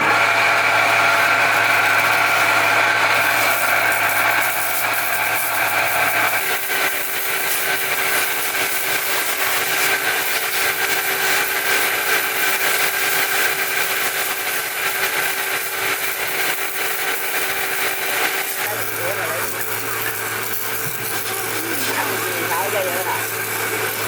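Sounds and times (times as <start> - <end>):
machine running with hiss: 0.0 - 24.0.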